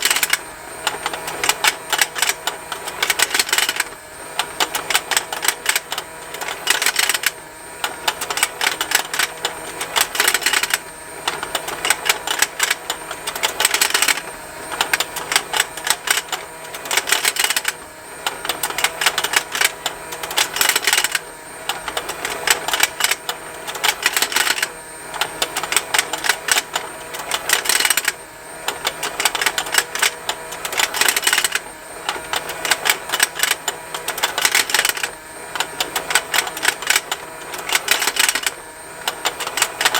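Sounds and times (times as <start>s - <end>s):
toy motor with plastic ticking: 0.0s - 39.9s.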